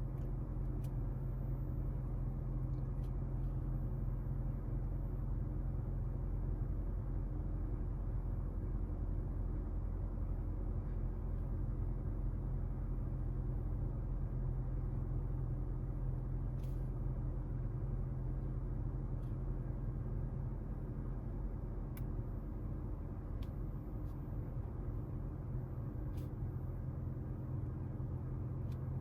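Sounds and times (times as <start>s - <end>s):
car cabin rumble and hum: 0.0s - 29.0s.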